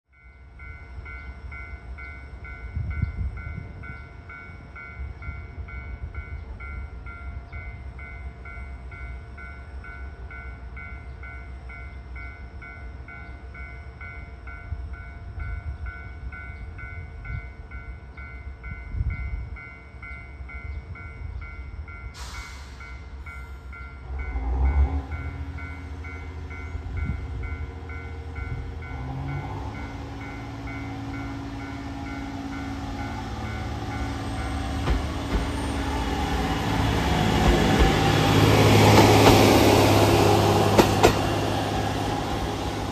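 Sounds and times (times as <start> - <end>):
railway warning bell ringing: 0.1 - 42.9.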